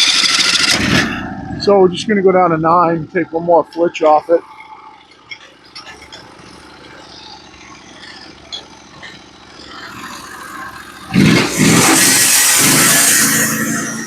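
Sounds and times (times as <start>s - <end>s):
sawmill gas engine running: 0.0s - 14.0s.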